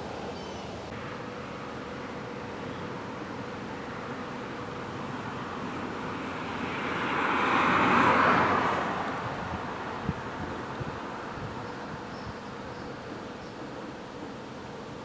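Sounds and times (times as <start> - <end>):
car passing by: 0.0 - 12.7.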